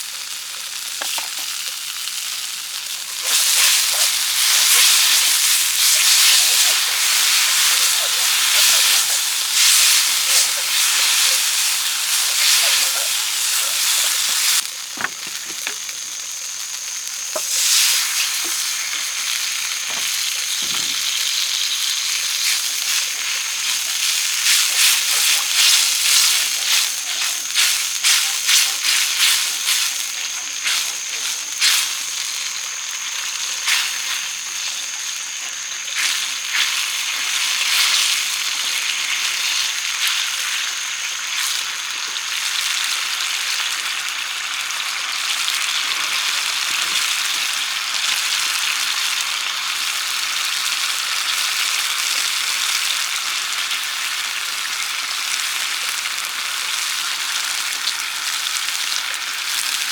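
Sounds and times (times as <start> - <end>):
fish sizzling in a pan: 0.0 - 59.9.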